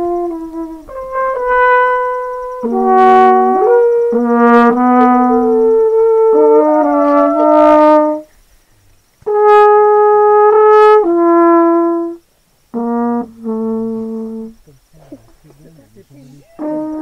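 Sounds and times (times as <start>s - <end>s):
slow brass melody: 0.0s - 8.3s, 9.2s - 17.0s.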